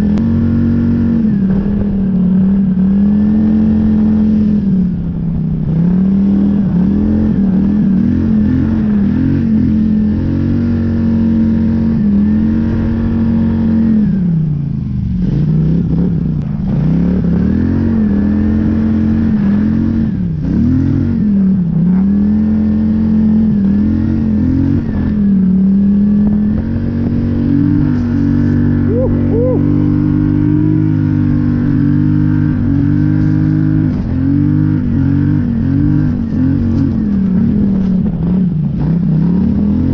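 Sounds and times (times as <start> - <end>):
atv engine running under load: 0.0 - 39.9.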